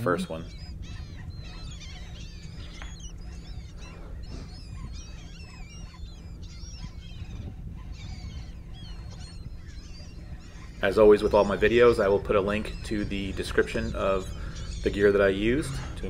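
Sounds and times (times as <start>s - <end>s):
seabirds calling: 0.0s - 16.0s.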